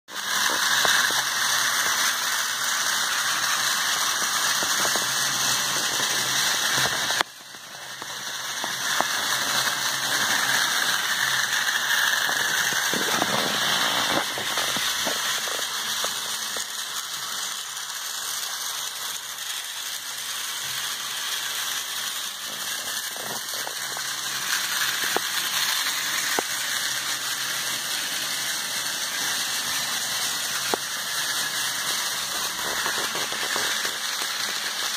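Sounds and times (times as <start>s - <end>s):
toy train motors whirring: 0.1s - 34.9s
wheels clicking over rail joints: 0.1s - 34.9s.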